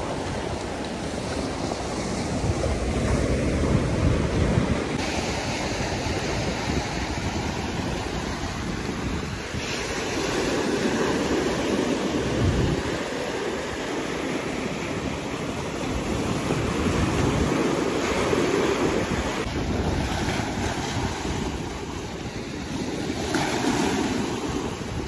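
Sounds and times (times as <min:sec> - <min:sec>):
sea waves breaking on rocks: 0:00.0 - 0:25.0
wind buffeting microphone: 0:00.0 - 0:25.0.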